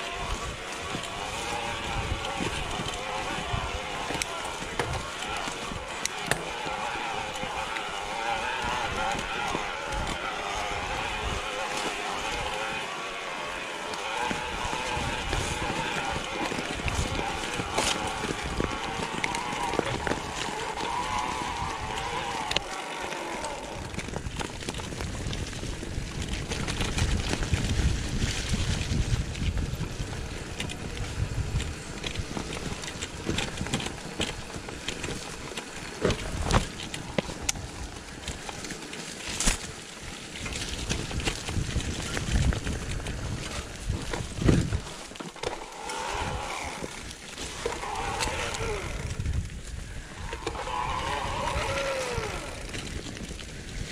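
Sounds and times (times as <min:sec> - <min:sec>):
bike rattling and clicking: 0:00.0 - 0:53.9
bike tyres crunching on dirt: 0:00.0 - 0:53.9.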